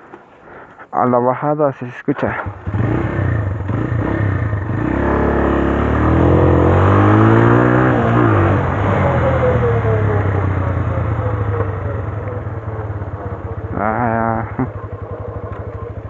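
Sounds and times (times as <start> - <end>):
motorcycle engine revving: 2.3 - 16.0.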